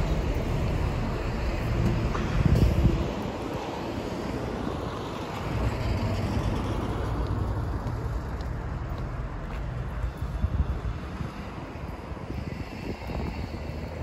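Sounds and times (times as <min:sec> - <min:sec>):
cars passing: 0:00.0 - 0:14.0.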